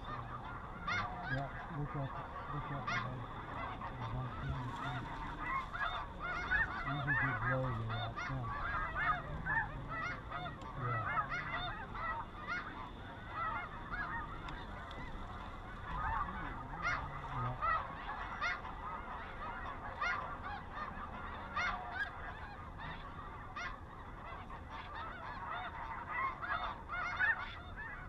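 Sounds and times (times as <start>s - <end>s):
geese honking in chorus: 0.0s - 28.0s.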